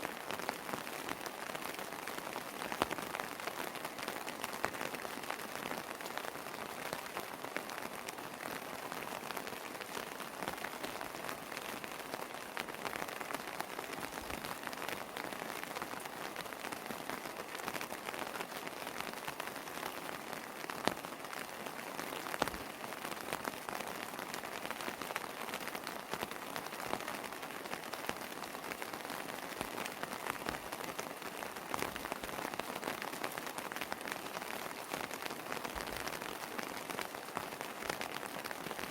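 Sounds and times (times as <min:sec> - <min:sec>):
raindrops pattering on hard surfaces: 0:00.0 - 0:38.9
steady rain falling: 0:00.0 - 0:38.9.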